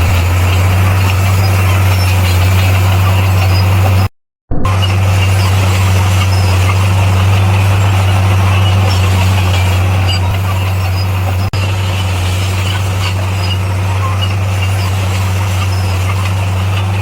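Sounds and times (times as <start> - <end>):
heavy diesel engine droning: 0.0 - 17.0
machinery noise: 0.0 - 17.0.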